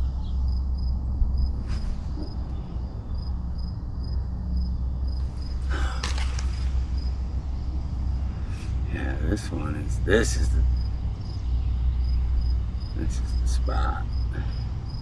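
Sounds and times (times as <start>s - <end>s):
insect chirping: 0.0s - 15.0s
low steady rumble: 0.0s - 15.0s.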